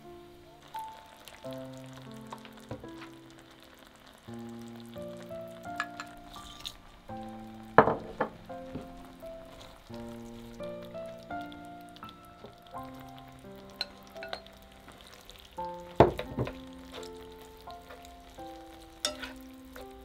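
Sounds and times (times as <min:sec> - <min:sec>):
sauce sizzling in a frying pan: 0:00.0 - 0:20.0
soft background music: 0:00.0 - 0:20.0.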